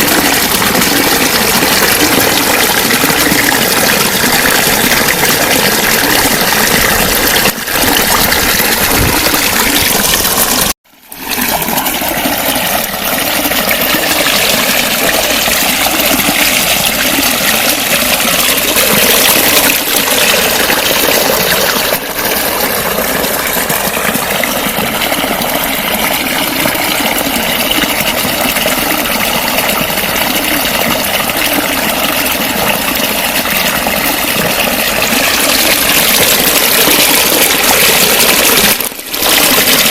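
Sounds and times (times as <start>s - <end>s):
water gurgling and splashing: 0.0s - 39.9s.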